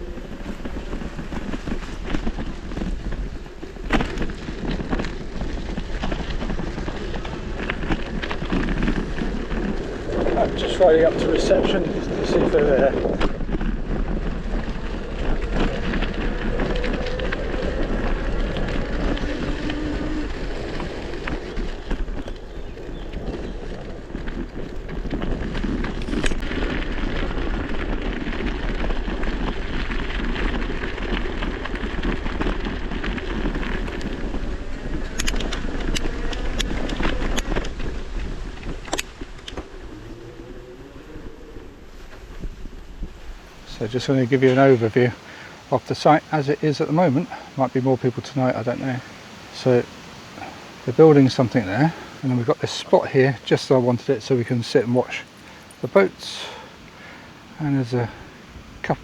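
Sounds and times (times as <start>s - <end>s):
bike clicks and rattles: 0.0s - 47.5s, 51.2s - 57.1s
bicycle tyre noise: 0.0s - 59.0s
wind buffeting microphone: 0.0s - 59.0s.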